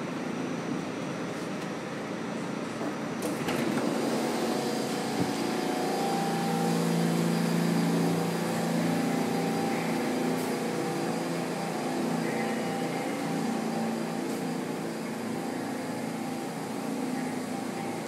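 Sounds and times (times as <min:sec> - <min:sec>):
subway train equipment hum: 0:00.0 - 0:18.0
station noise: 0:03.2 - 0:18.0.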